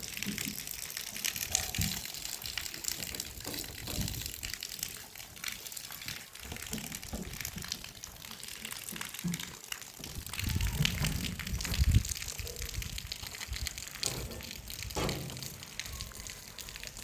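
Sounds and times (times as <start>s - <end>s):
water splashing and running: 0.0s - 17.0s.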